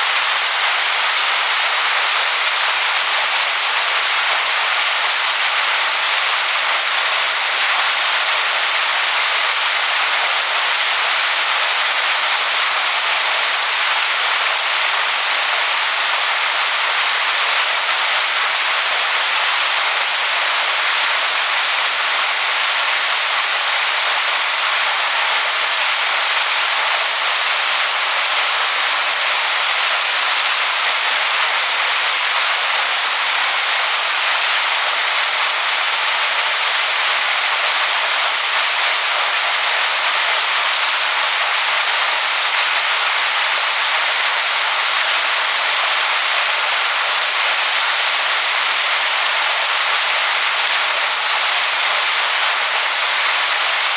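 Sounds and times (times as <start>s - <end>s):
waterfall splashing onto stones: 0.0s - 53.9s.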